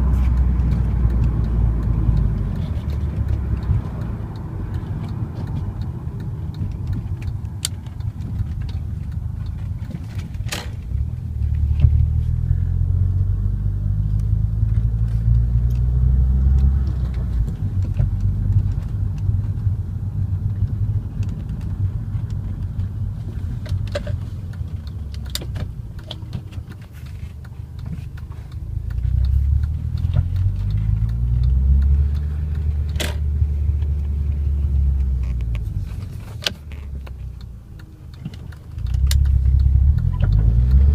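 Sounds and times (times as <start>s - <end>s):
sharp clicks and rattles: 0.0s - 12.3s, 16.5s - 40.9s
deep car exhaust drone: 0.0s - 40.9s.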